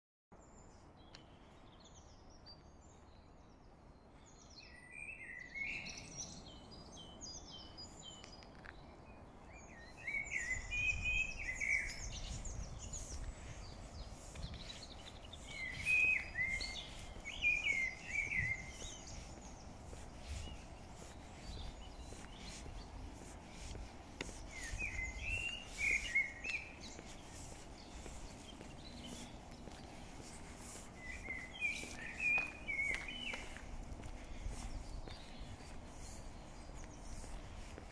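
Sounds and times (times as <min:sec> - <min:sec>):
songbirds chirping and warbling: 0:00.4 - 0:37.9.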